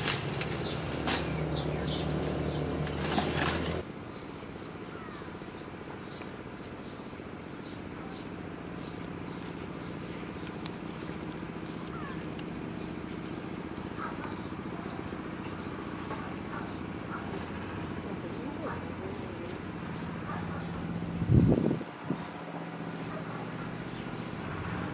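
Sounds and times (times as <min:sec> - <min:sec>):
low outdoor background hum: 0:00.0 - 0:24.9.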